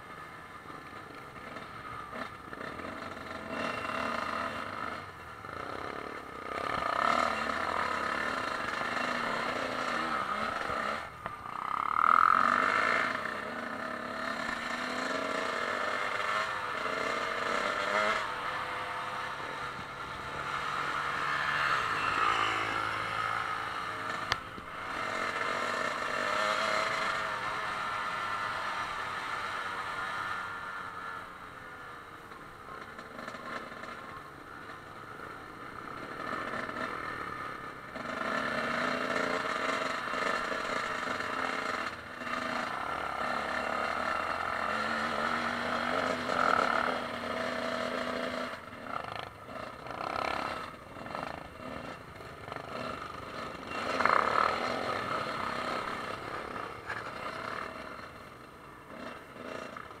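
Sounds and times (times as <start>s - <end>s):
dirt bike engine revving: 0.1s - 34.2s, 35.1s - 60.0s.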